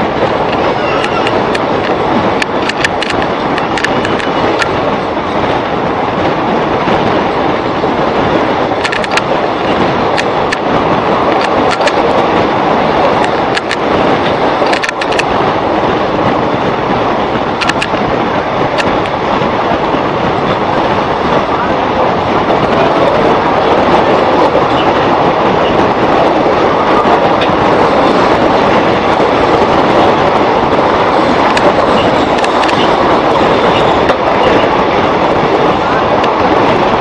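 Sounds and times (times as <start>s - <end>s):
rumble of wheels on rail: 0.0s - 37.0s
sharp rail clicks: 0.0s - 37.0s.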